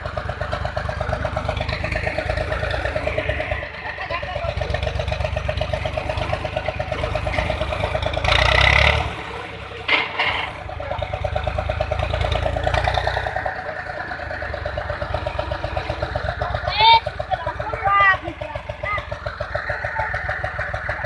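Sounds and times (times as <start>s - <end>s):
tractor diesel engine chugging: 0.0s - 21.0s.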